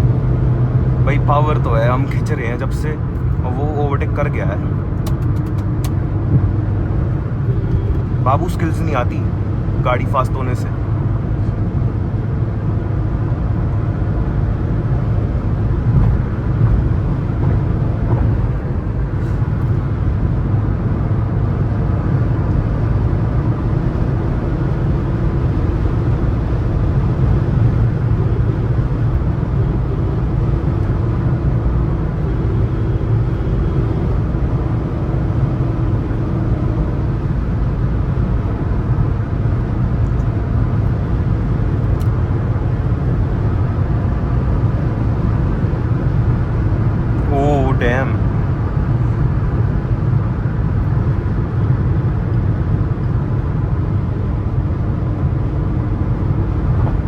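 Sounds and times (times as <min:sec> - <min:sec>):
low car engine drone: 0:00.0 - 0:57.0
road and wind noise: 0:00.0 - 0:57.0.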